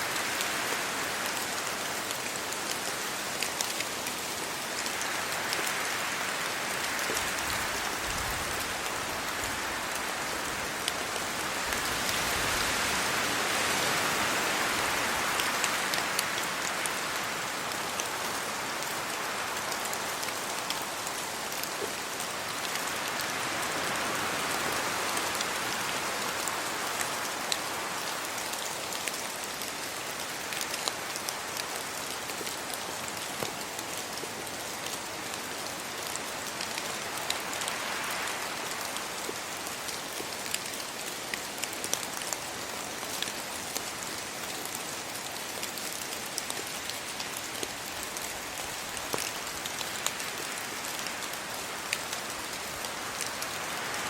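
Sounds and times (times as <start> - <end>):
steady rain falling: 0.0 - 54.0
wind in tree leaves: 0.0 - 54.0.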